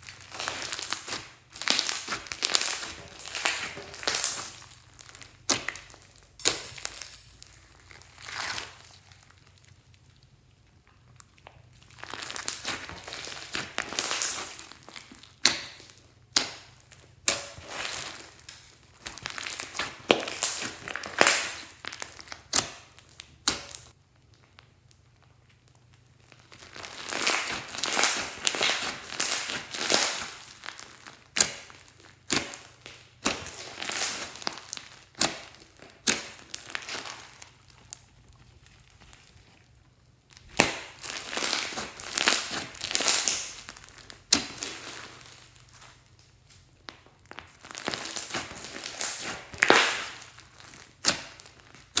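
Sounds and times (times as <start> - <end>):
slime squishing and crackling: 0.0 - 52.0.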